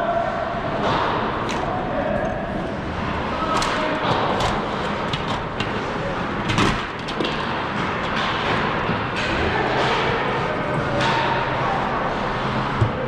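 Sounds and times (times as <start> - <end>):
hockey sticks and puck clacking: 0.8 - 13.0.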